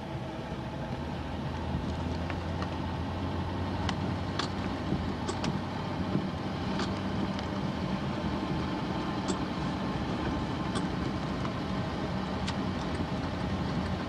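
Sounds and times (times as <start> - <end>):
car engine and road hum: 0.0 - 14.0.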